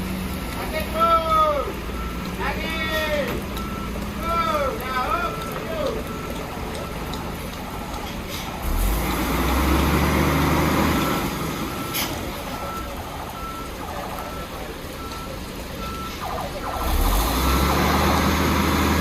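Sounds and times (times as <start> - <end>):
heavy truck engine rumble: 0.0 - 19.0
truck reversing alarm beeping: 0.0 - 19.0.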